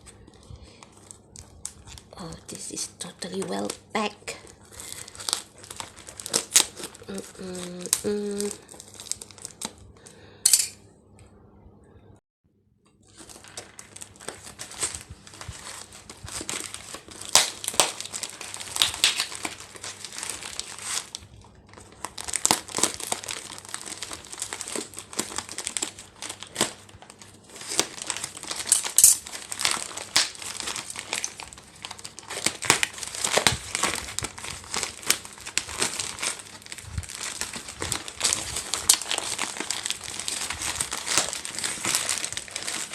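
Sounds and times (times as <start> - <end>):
plastic packaging crinkling and tearing: 0.0 - 10.2, 13.0 - 42.9.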